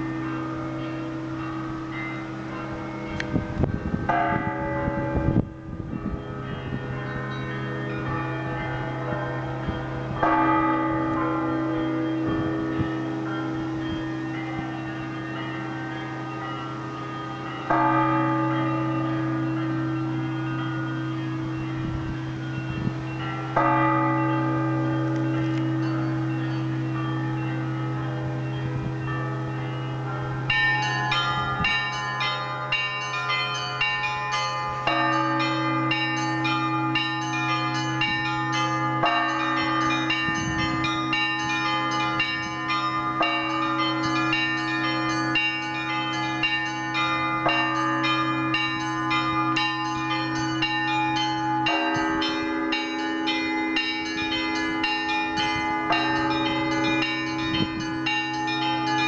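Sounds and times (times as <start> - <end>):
large church bells humming: 0.0 - 59.0.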